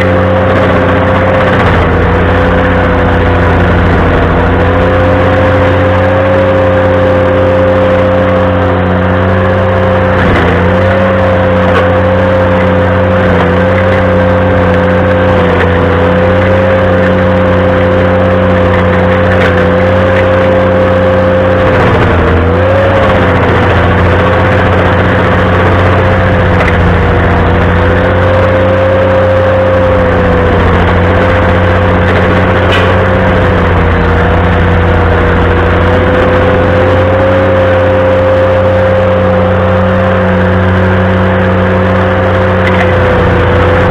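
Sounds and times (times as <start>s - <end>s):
stump grinder whine: 0.0s - 43.9s
tractor engine drone: 0.0s - 43.9s.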